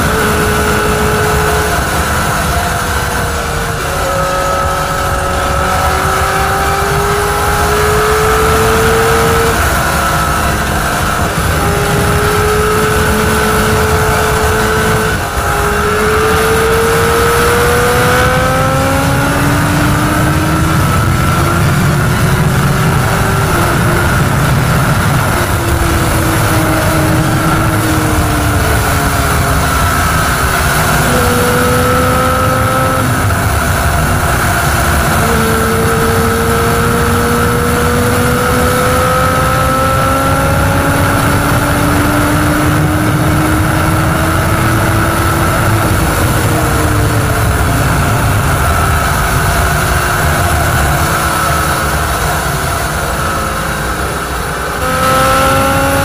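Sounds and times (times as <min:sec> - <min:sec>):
motorcycle engine at highway speed: 0:00.0 - 0:56.0
wind rushing over microphone: 0:00.0 - 0:56.0.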